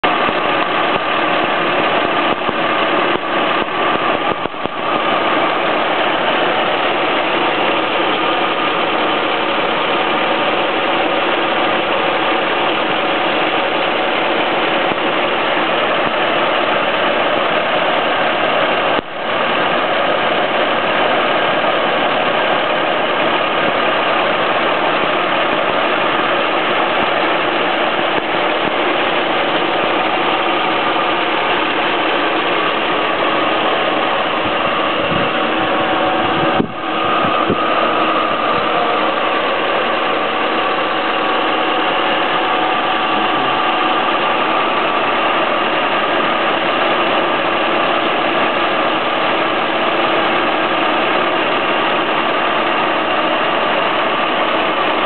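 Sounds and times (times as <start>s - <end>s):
engine cooling fan: 0.0s - 55.0s.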